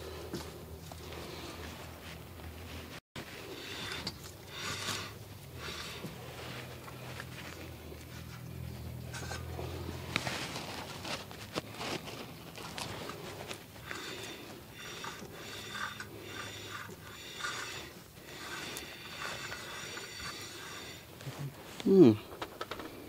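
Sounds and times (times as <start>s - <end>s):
metal rubbing and scraping: 0.9s - 23.0s.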